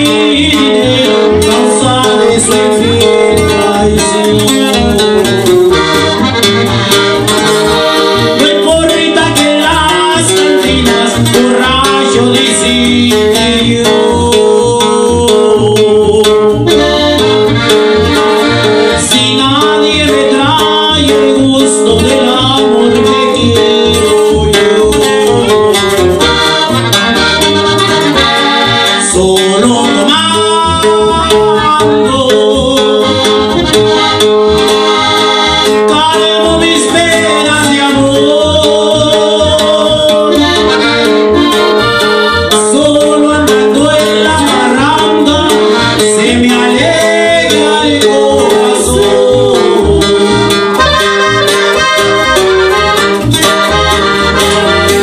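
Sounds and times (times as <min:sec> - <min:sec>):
button accordion melody: 0:00.0 - 0:55.0
electric bass: 0:00.0 - 0:55.0
strummed guitar: 0:00.0 - 0:55.0.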